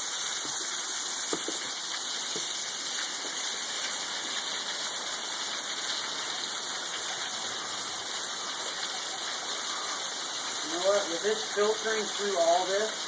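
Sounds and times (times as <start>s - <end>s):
small waterfall pouring: 0.0s - 13.0s.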